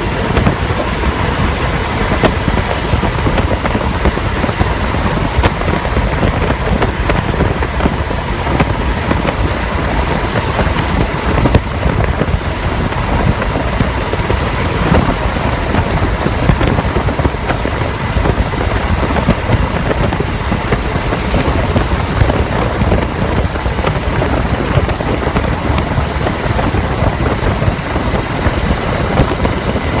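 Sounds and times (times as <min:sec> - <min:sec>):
faint steady whine: 0:00.0 - 0:30.0
helicopter engine and rotor: 0:00.0 - 0:30.0.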